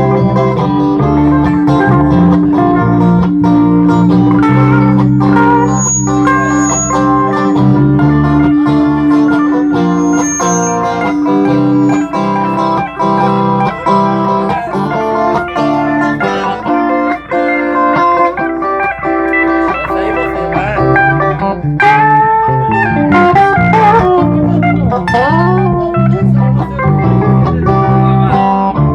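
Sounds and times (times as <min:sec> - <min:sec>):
bass line: 0:00.0 - 0:28.9
plucked guitar notes: 0:00.0 - 0:28.9.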